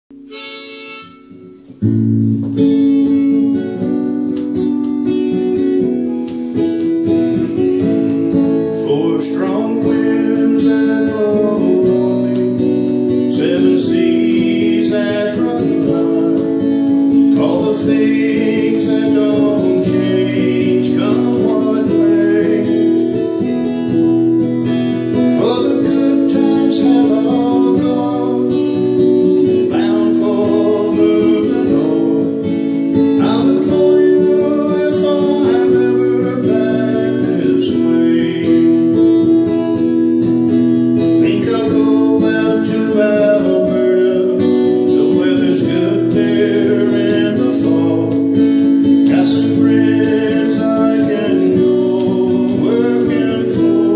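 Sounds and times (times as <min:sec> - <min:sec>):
acoustic guitar strumming: 0:00.1 - 0:53.9
person singing folk song: 0:00.2 - 0:53.9.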